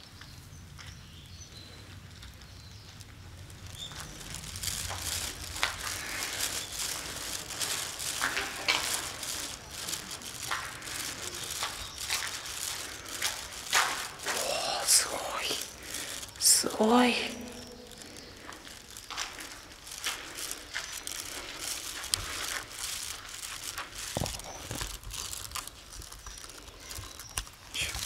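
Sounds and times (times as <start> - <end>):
footsteps crunching on gravel: 1.9 - 28.0.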